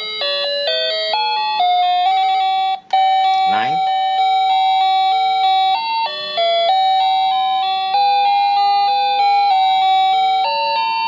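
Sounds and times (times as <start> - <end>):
doorbell electronic melody: 0.0 - 11.0.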